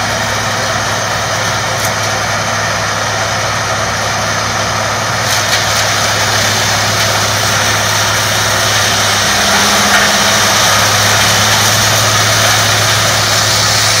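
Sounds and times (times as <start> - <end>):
wood chipper running: 0.0 - 14.0.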